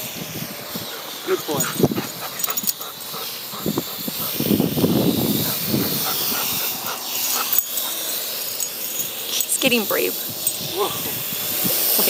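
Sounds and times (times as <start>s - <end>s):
drone rotors hissing: 0.0s - 12.0s.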